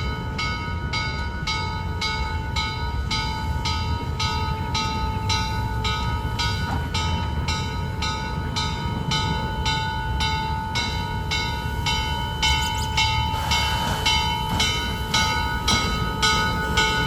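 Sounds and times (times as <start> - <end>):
locomotive bell ringing: 0.0 - 17.0
train rumbling: 0.0 - 17.0.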